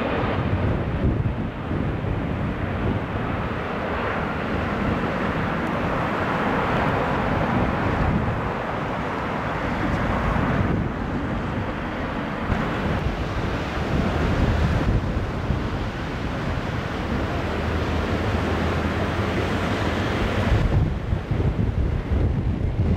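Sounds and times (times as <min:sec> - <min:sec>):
jet engines roaring: 0:00.0 - 0:22.9
wind buffeting microphone: 0:00.0 - 0:22.9.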